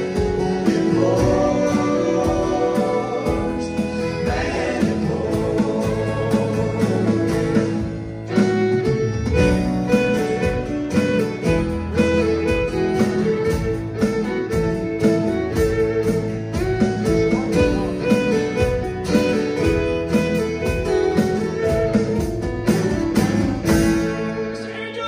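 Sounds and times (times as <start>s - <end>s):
fiddle: 0.0s - 25.0s
guitar: 0.0s - 25.0s.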